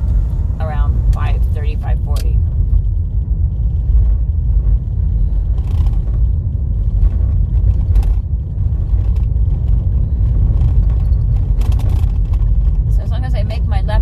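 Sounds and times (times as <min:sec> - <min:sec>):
tyres rumbling on dirt road: 0:00.0 - 0:14.0.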